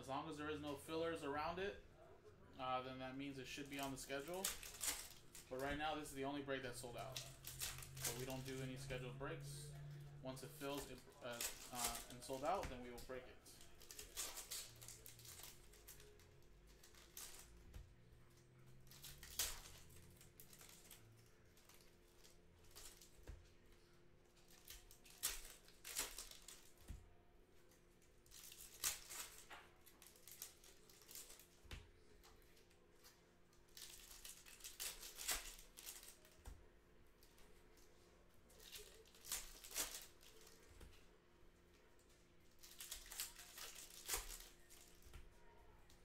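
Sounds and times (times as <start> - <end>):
card pack wrappers crinkling and tearing: 3.5 - 17.7, 18.3 - 36.5, 38.5 - 40.8, 42.4 - 45.6.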